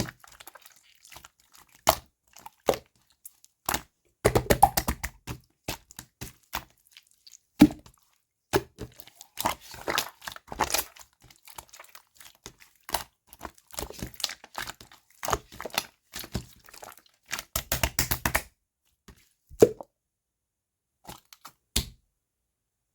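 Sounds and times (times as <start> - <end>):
slime squishing with wet clicks: 0.0 - 18.6.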